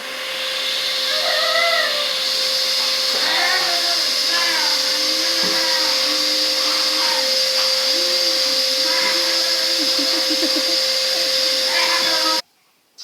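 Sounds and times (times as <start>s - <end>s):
vacuum cleaner motor whine: 0.0s - 12.4s.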